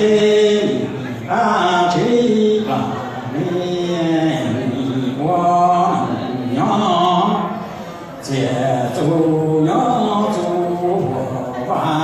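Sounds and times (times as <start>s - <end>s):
man chanting into microphone: 0.0s - 7.6s, 8.2s - 12.0s.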